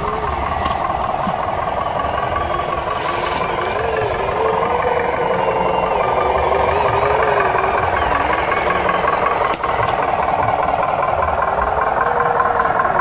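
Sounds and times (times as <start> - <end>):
model truck engine drone: 0.0 - 13.0.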